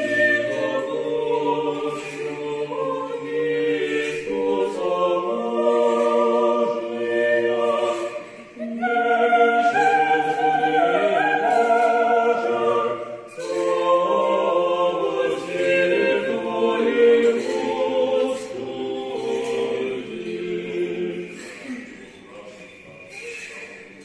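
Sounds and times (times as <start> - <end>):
choir chanting a cappella: 0.0 - 22.9.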